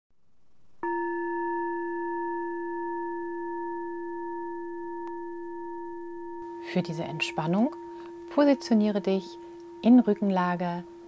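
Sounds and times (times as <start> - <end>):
singing bowl ringing: 0.8 - 11.0.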